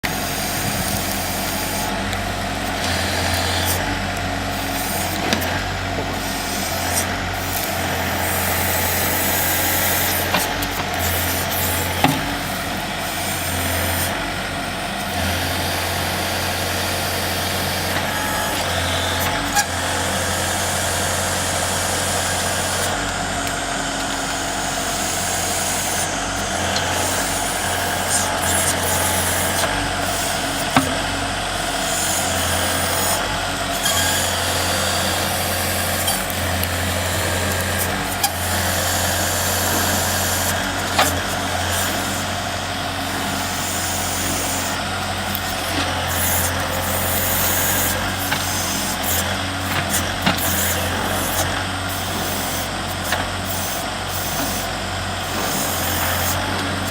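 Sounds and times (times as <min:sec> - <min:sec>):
loader engine running: 0:00.0 - 0:56.9.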